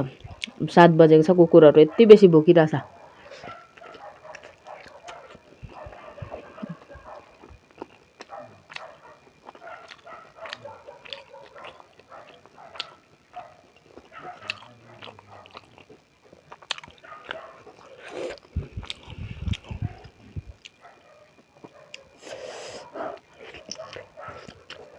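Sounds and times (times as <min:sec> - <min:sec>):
chewing food: 0:00.0 - 0:00.8, 0:02.8 - 0:24.9.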